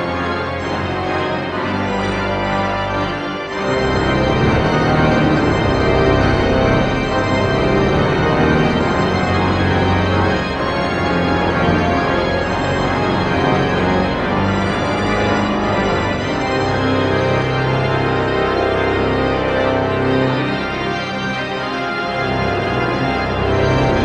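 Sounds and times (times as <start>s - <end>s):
pipe organ playing chords: 0.0s - 24.0s.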